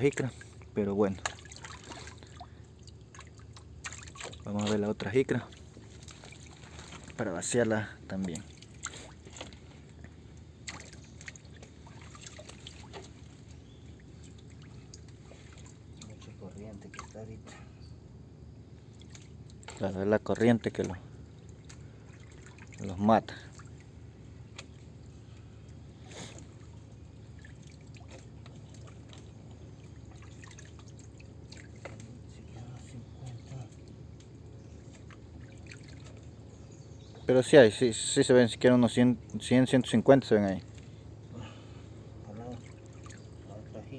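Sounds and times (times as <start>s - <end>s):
small splashes: 0.0s - 17.5s, 18.8s - 37.2s, 40.5s - 43.9s
low steady hum: 0.0s - 43.9s
water trickling and sloshing: 0.0s - 43.9s.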